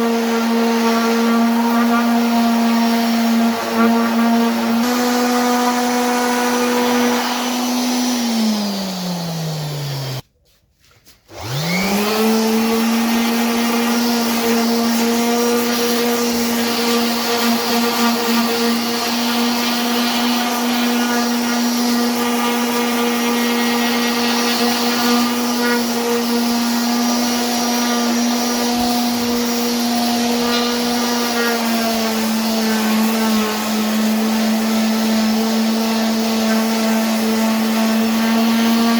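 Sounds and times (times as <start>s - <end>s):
electric power tool motor: 0.0s - 10.2s, 11.3s - 38.9s.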